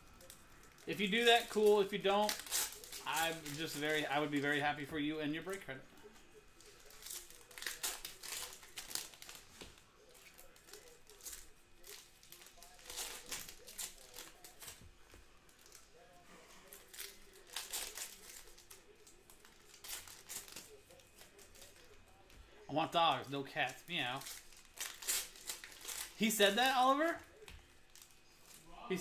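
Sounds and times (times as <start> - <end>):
foil wrappers crinkling and tearing: 0.1 - 5.7, 6.6 - 22.3, 23.1 - 29.0.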